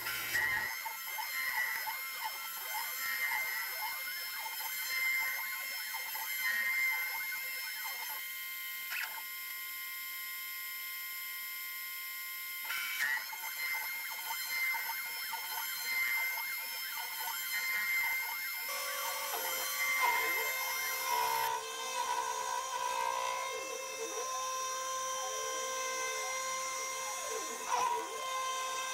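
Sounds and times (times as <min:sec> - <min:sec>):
router whining carving wood: 0:00.0 - 0:28.9.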